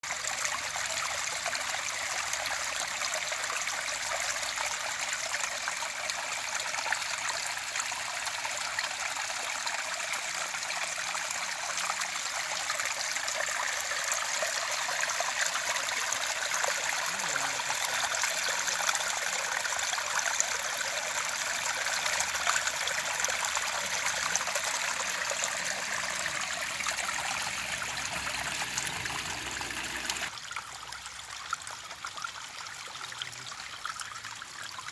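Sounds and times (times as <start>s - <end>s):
stream water running: 0.0s - 34.9s.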